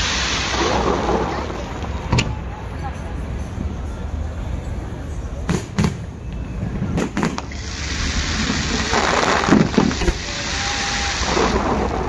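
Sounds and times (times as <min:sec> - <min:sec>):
fireworks crackling: 0:00.0 - 0:03.3, 0:05.4 - 0:12.0.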